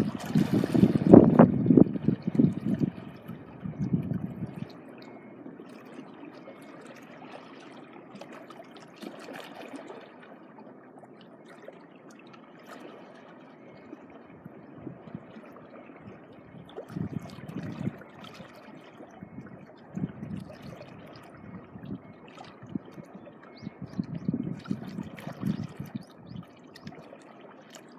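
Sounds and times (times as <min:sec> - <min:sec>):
small waves lapping at shore: 0:00.0 - 0:01.4, 0:02.0 - 0:27.9.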